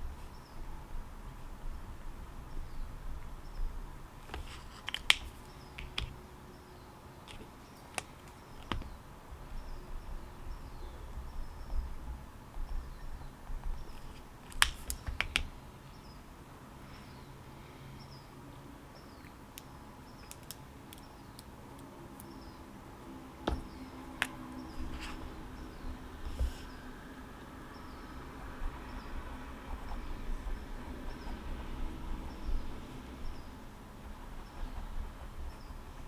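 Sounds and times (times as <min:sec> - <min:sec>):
birds chirping: 0:05.1 - 0:36.0.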